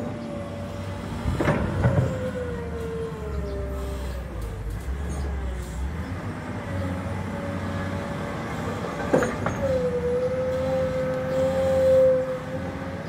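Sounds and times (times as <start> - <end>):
excavator engine rumble with whine: 0.0 - 13.0.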